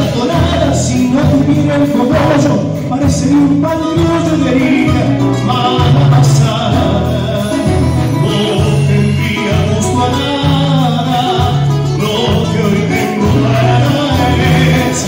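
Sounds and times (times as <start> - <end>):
drums: 0.0 - 15.0
electric bass: 0.0 - 15.0
person singing: 0.0 - 15.0
strummed acoustic guitars: 0.0 - 15.0.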